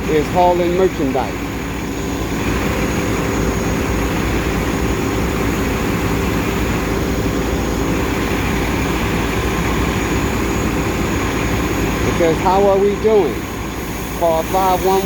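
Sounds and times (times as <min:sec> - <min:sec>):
steady hum: 0:00.0 - 0:15.0
street traffic: 0:00.0 - 0:15.0.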